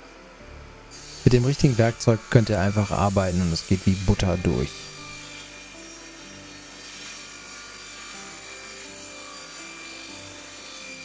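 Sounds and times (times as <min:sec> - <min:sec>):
soft background music: 0:00.0 - 0:11.0
table saw cutting wood: 0:00.0 - 0:11.0.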